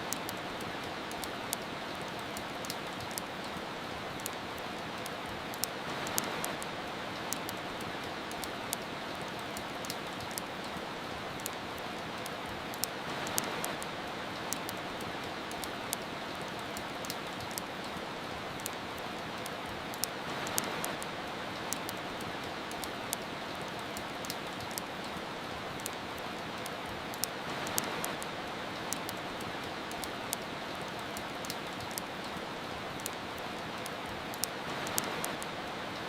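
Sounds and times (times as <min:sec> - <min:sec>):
soft rain hiss: 0:00.0 - 0:36.0
wood fire crackling: 0:00.0 - 0:36.0.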